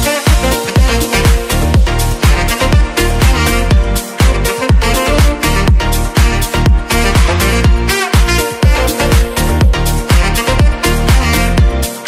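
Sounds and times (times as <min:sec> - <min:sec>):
kick drum: 0:00.0 - 0:11.9
electronic dance music: 0:00.0 - 0:12.0.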